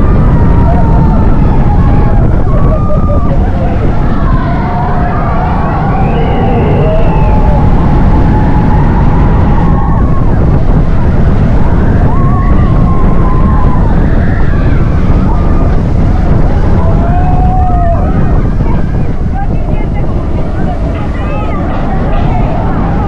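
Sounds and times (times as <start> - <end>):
road rumble: 0.0 - 23.0
wind buffeting: 0.0 - 23.0.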